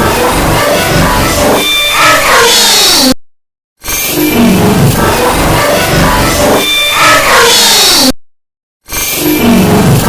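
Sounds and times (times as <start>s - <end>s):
distorted pitch-shifted cartoon music: 0.0s - 3.2s, 3.8s - 8.2s, 8.9s - 10.0s.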